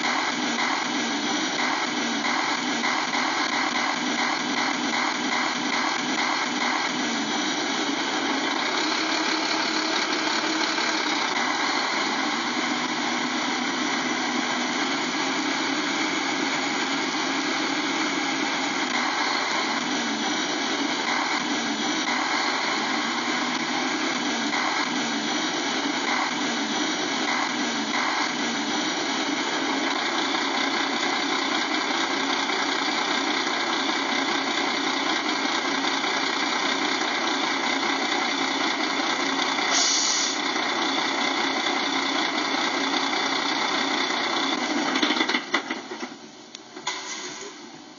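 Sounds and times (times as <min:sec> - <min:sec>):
engine idling: 0:00.0 - 0:47.7.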